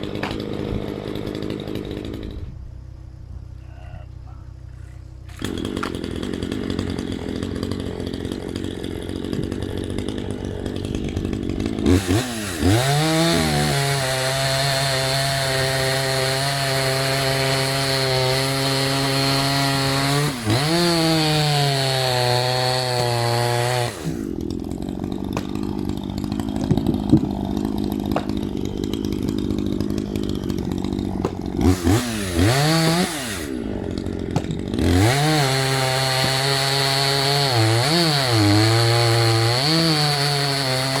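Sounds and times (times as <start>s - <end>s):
chainsaw cutting wood: 0.0s - 2.6s, 4.9s - 41.0s.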